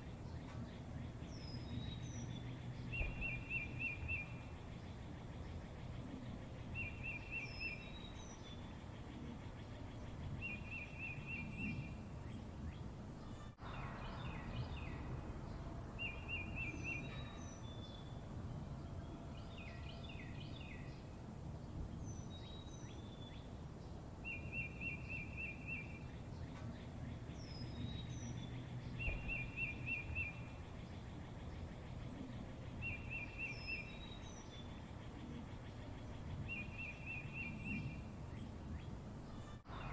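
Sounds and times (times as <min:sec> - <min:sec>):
birds twittering: 0:00.0 - 0:39.9
low steady background hum: 0:00.0 - 0:39.9
songbirds singing: 0:00.0 - 0:39.9.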